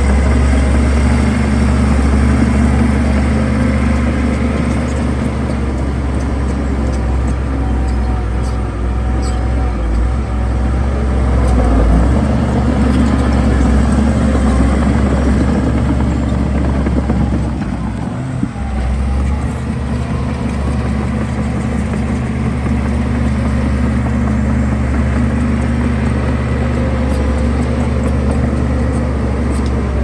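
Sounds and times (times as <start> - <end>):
diesel construction machinery running: 0.0 - 30.0.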